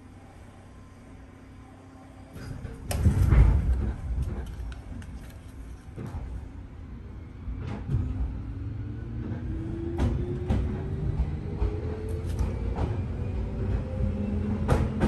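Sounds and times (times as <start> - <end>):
train running rumble: 2.3 - 15.0.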